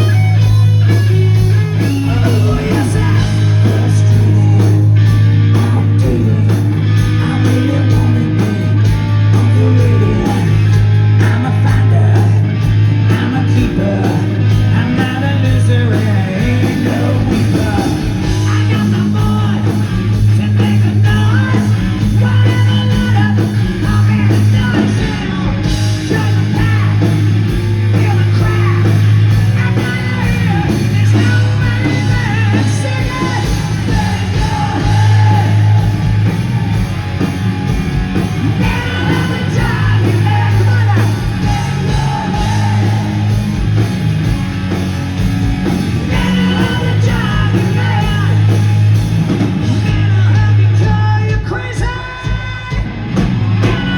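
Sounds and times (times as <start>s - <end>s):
electric guitar: 0.0s - 53.9s
hard rock music: 0.0s - 53.9s
heavy bass: 0.0s - 53.9s
lead vocal singing and shouting: 0.0s - 53.9s.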